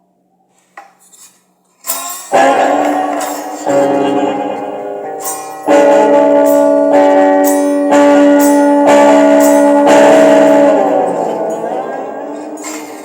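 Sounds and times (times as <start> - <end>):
slide guitar chords: 1.9 - 13.0.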